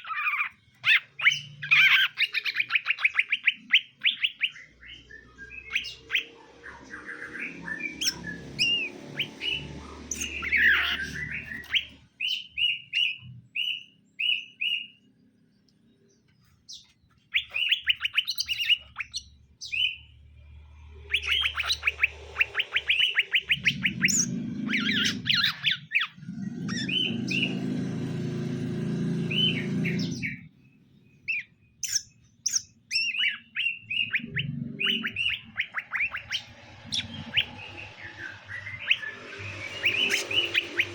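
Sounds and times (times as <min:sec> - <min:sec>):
leafbirds chirping and trilling: 0:00.0 - 0:40.9.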